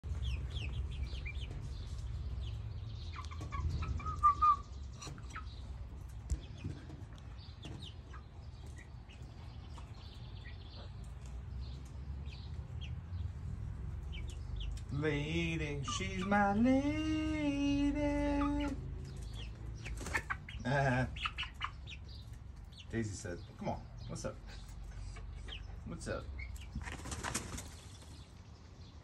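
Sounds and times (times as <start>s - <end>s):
hens peeping and chirping: 0.0s - 29.0s.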